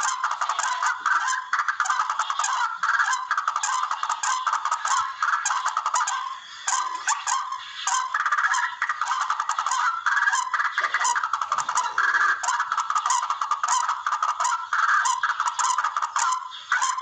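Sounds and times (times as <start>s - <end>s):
bird call rapid repeated notes: 0.0s - 17.0s.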